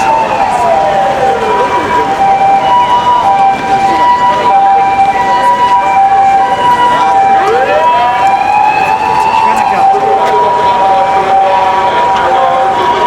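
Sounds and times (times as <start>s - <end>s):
siren wailing upward: 0.0s - 13.0s
two-tone ambulance siren: 0.0s - 13.0s.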